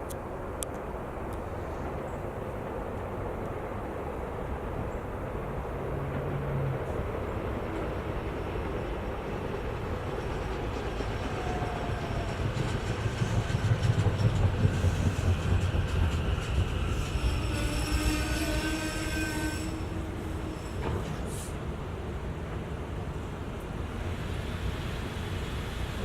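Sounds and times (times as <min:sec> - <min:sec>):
train wheels clattering on track: 0:00.5 - 0:26.0.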